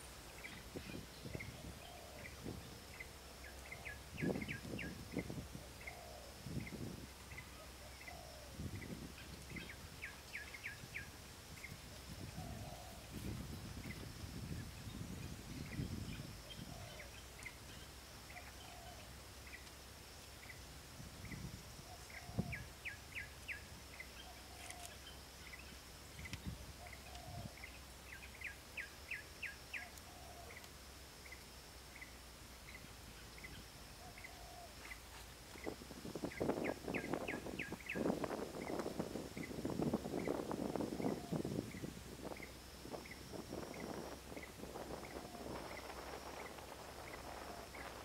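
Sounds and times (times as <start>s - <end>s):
birds chirping: 0.0s - 14.1s, 21.2s - 31.4s, 32.0s - 48.0s
fainter lower bird calls: 0.0s - 19.7s, 21.2s - 48.0s
faint steady high whine: 0.0s - 48.0s.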